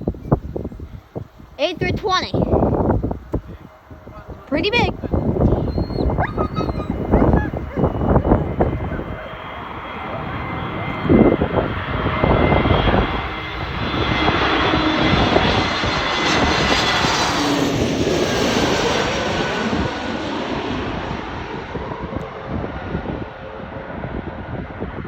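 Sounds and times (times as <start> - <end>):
jet airliner passing overhead: 0.0 - 25.0
wind buffeting microphone: 0.0 - 25.0.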